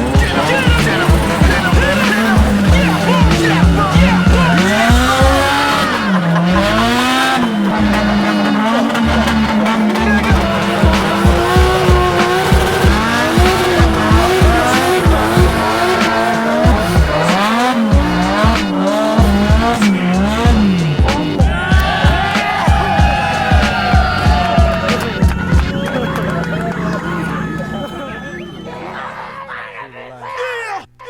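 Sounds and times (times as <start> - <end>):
background music with steady beat: 0.0 - 29.0
car engines revving: 0.0 - 30.1
tyre squeal: 0.0 - 30.8.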